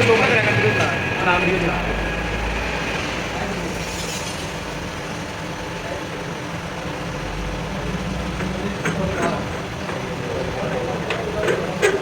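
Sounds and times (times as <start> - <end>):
continuous hum: 0.0 - 12.0
low mechanical rumble: 0.0 - 12.0.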